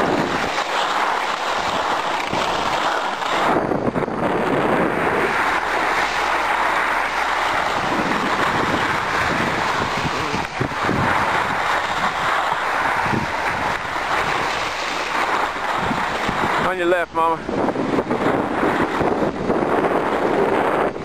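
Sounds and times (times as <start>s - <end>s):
skis scraping over packed snow: 0.0s - 21.0s
wind on microphone: 0.0s - 21.0s.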